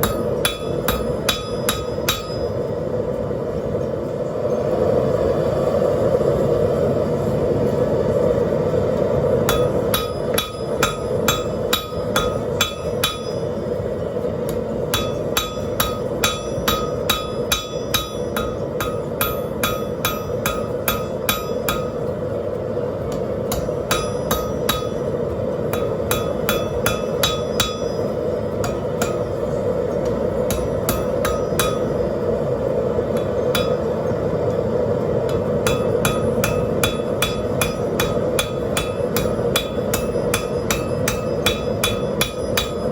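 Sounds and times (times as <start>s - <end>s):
hammer ringing on anvil: 0.0s - 2.7s, 9.5s - 32.3s, 33.0s - 42.9s.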